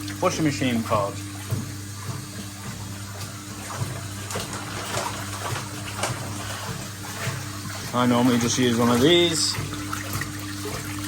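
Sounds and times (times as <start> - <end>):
motor hum: 0.0 - 11.0
water trickling into washing machine: 0.0 - 11.0.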